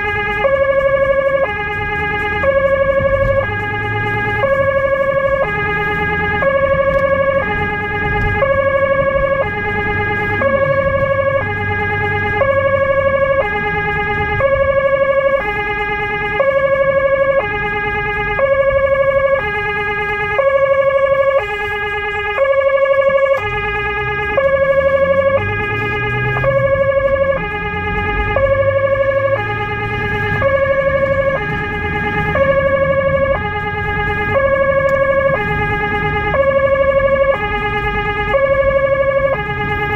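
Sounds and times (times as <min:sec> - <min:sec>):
car engine and road noise: 0:00.0 - 0:39.9
two-tone emergency siren: 0:00.0 - 0:39.9.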